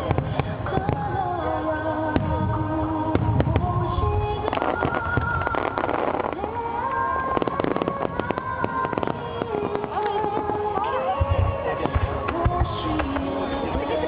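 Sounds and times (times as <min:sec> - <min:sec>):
fireworks booming: 0:00.0 - 0:14.0
fireworks crackling pops: 0:00.0 - 0:14.0
music with long held notes: 0:00.0 - 0:14.0.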